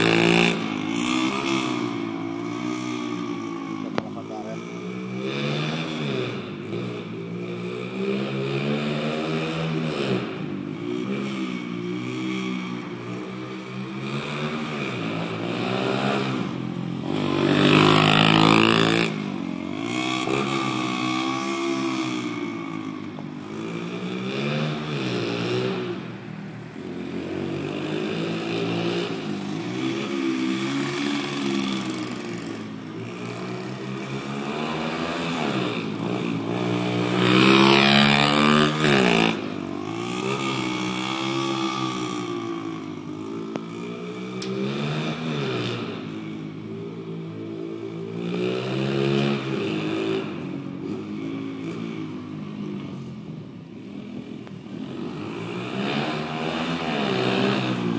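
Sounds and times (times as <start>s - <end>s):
pit bike engine revving: 0.0s - 26.1s, 26.8s - 52.4s, 54.8s - 57.9s.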